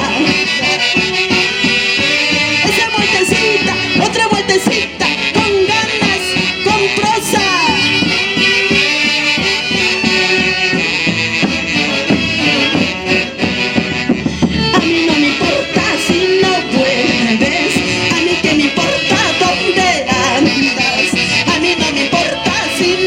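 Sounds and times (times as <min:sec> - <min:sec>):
folk orchestra playing: 0:00.0 - 0:23.0
reedy melody line: 0:00.0 - 0:23.0.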